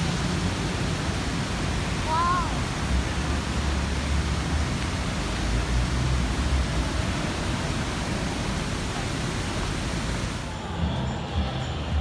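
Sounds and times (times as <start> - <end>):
train running on rails: 0.0 - 11.3.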